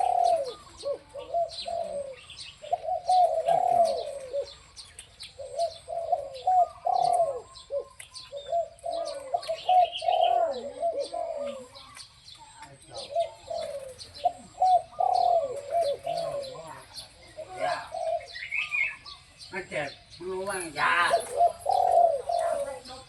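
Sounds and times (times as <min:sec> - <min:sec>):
dove cooing: 0:00.0 - 0:23.0
small birds chirping: 0:00.0 - 0:23.0.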